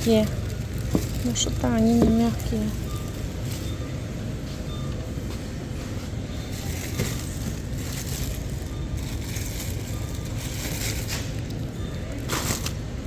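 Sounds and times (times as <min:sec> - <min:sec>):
shopping cart rolling: 0:00.0 - 0:13.0.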